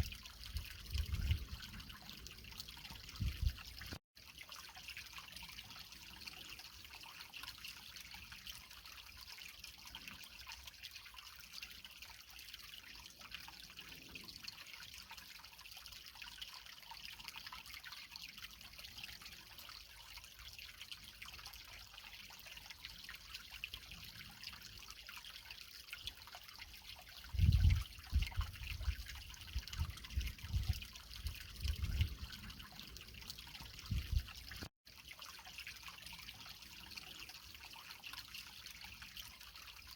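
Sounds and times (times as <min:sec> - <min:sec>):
creek water trickling over rocks: 0:00.0 - 0:39.9.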